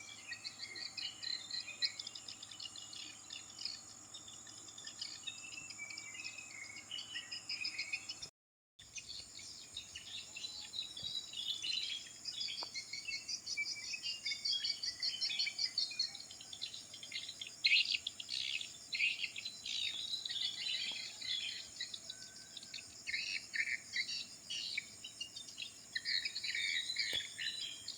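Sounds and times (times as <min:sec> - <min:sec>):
small birds chirping and trilling: 0:00.0 - 0:27.9.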